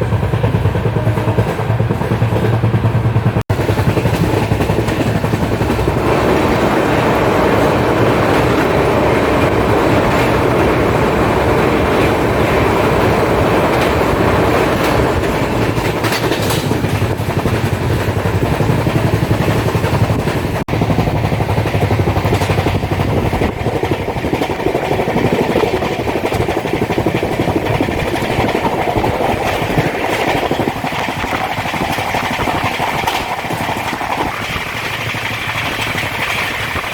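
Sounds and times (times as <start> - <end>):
train wheels on rails: 0.0 - 36.9.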